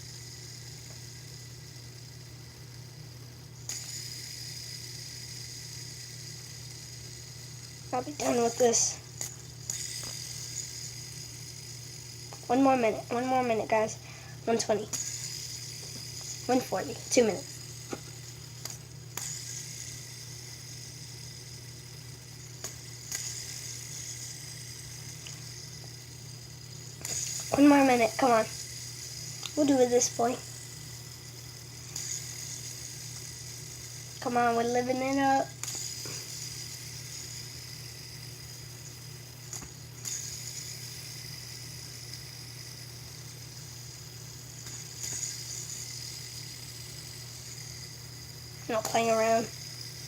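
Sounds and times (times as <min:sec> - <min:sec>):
fidget spinner whirring: 0:00.0 - 0:50.0
low steady hum: 0:00.0 - 0:50.0.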